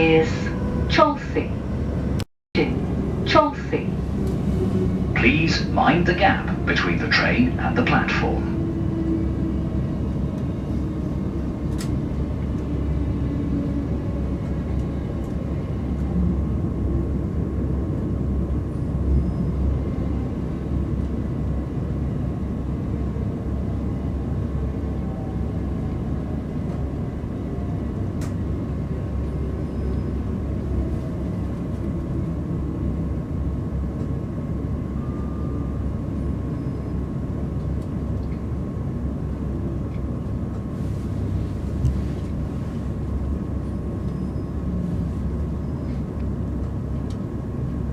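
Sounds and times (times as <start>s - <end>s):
train cabin rumble and whine: 0.0s - 47.9s.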